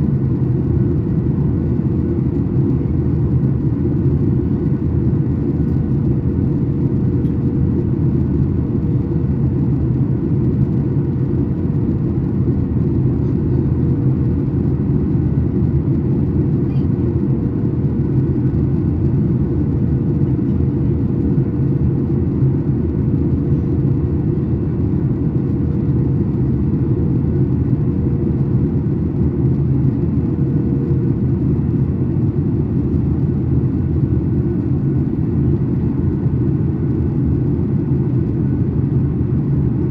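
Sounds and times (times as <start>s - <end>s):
airliner cabin engine rumble: 0.0s - 39.9s
faint steady hum: 0.0s - 39.9s.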